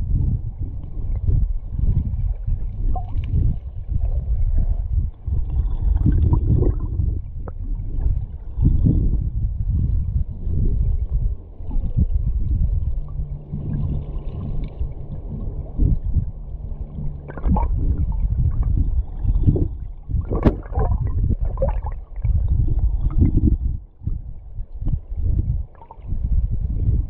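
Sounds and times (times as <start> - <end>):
muffled underwater river rumble: 0.0 - 27.0.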